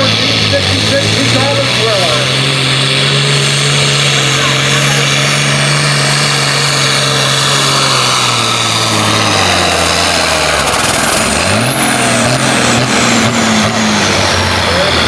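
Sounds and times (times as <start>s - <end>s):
diesel tractor engine under load: 0.0s - 15.0s.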